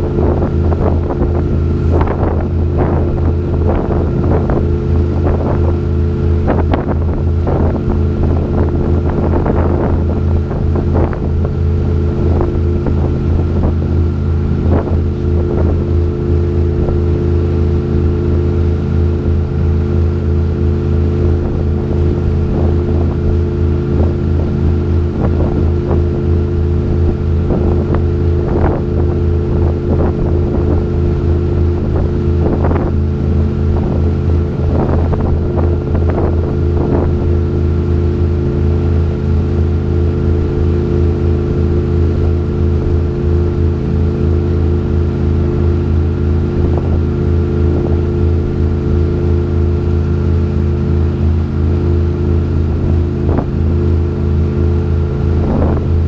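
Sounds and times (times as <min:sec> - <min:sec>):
boat engine droning: 0:00.0 - 0:56.0
water splashing: 0:00.0 - 0:56.0
wind on microphone: 0:00.0 - 0:56.0.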